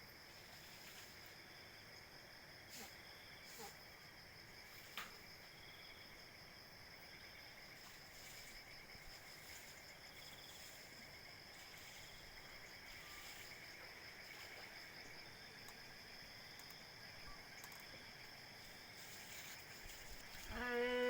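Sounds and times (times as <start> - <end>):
crickets and night insects trilling: 0.0 - 21.0
high insect chirping: 0.1 - 21.0.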